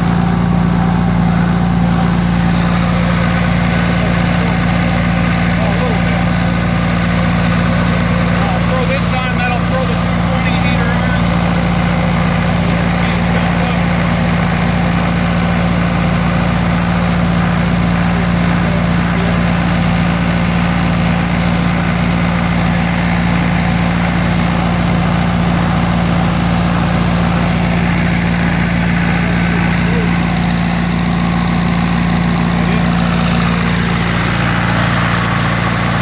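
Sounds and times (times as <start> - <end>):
diesel generator running: 0.0 - 36.0.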